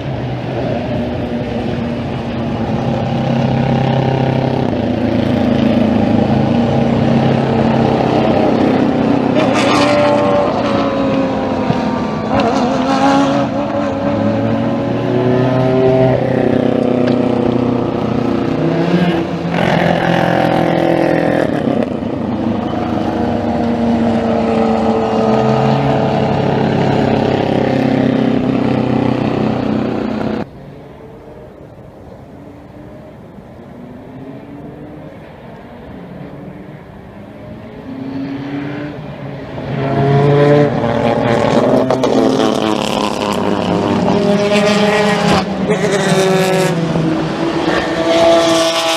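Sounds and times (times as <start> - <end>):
racing car engines passing: 0.0 - 48.9.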